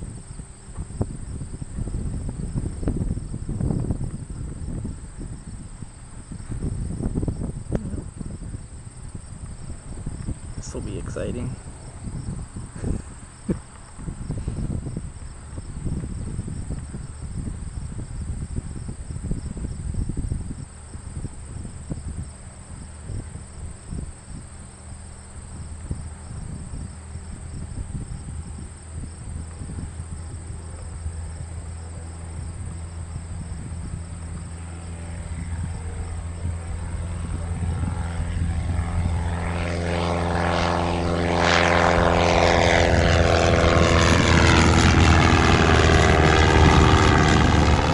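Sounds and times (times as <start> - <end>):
light aircraft engine and propeller: 0.0 - 47.9
wind gusting on microphone: 0.0 - 47.9.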